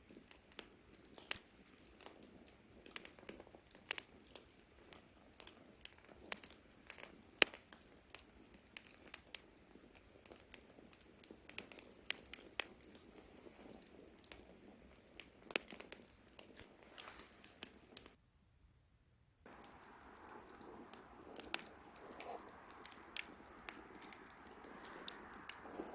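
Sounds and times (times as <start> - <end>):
campfire crackling and popping: 0.0 - 18.2, 19.5 - 25.9
soft flame noise: 0.0 - 18.2, 19.5 - 25.9.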